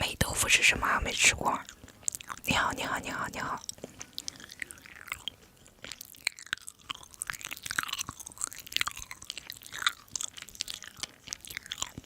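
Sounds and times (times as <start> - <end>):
person chewing food: 1.4 - 12.0.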